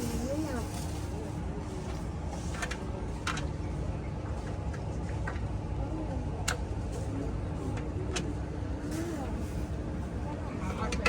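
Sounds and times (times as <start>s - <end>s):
steady rumble and hum: 0.0s - 11.0s.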